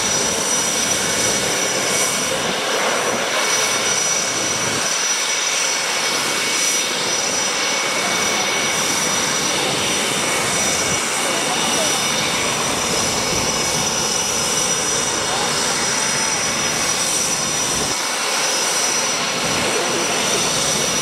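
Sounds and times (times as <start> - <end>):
high-pitched jet whine: 0.0 - 21.0
jet engine rushing: 0.0 - 21.0.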